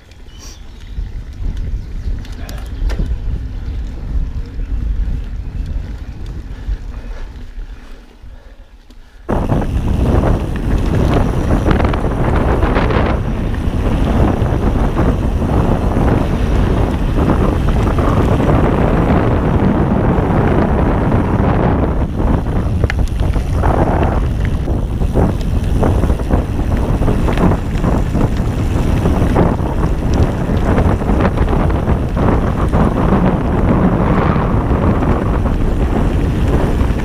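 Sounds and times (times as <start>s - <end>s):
wind rushing over microphone: 0.0s - 8.6s, 9.2s - 37.0s
bike tyre rumble on dirt: 0.0s - 37.0s.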